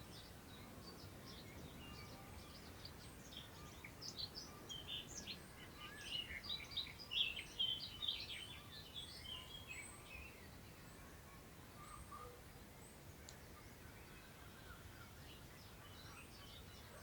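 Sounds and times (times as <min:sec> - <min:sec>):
songbird singing: 0:00.0 - 0:17.0
wind through long grass: 0:00.0 - 0:17.0.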